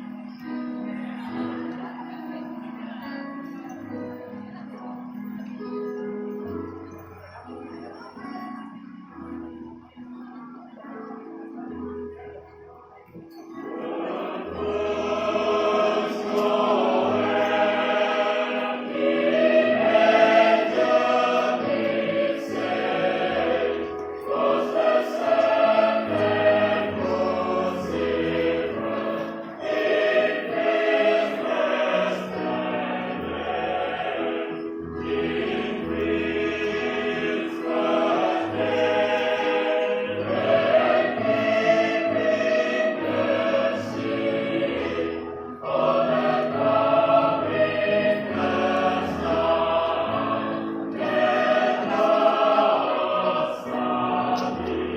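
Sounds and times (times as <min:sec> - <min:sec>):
choir singing in harmony: 0:00.0 - 0:54.9.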